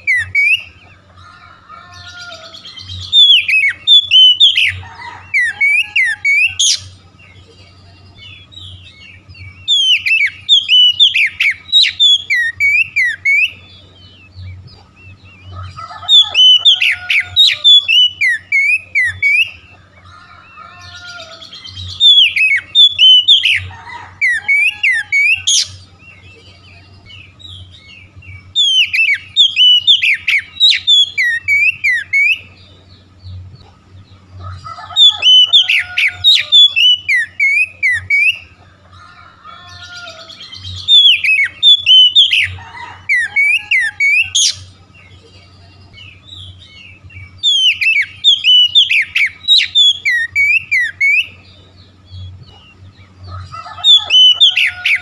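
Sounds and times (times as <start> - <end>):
bird singing whistles and chirps: 0.0 - 1.0, 1.9 - 33.4, 34.8 - 38.6, 39.7 - 55.0.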